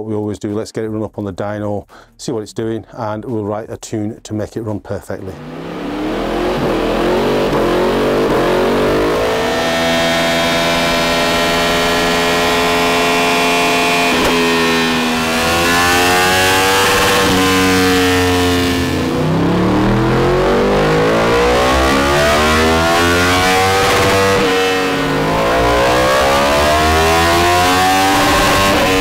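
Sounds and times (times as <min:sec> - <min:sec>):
motorcycle engine revving hard: 0:05.3 - 0:29.0.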